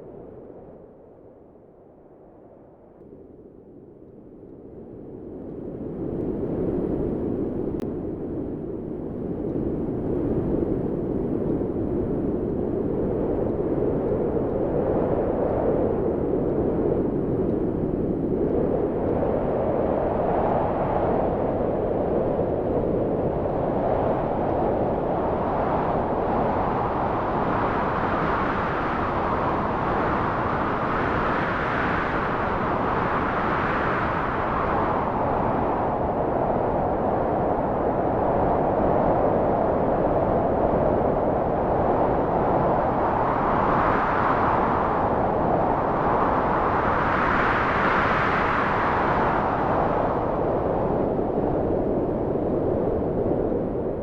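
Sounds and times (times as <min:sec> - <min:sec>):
wind blowing: 0:09.7 - 0:54.0.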